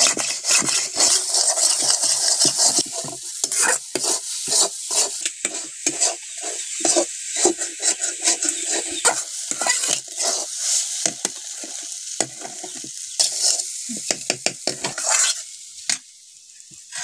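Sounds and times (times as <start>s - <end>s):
metal spatula scraping a pan: 0.0s - 13.8s, 14.6s - 16.0s
frying sizzle: 0.0s - 17.0s.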